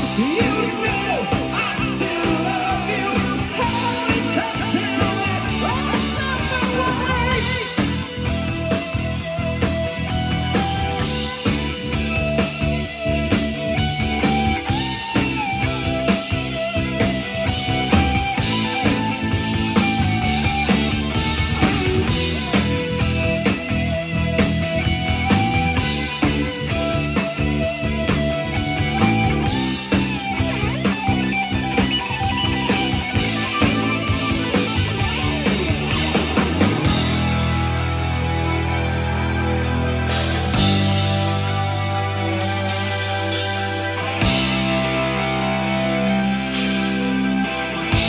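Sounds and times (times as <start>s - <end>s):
bass guitar: 0.0s - 48.0s
drum kit: 0.0s - 48.0s
electric guitar lead: 0.0s - 48.0s
keyboards: 0.0s - 48.0s.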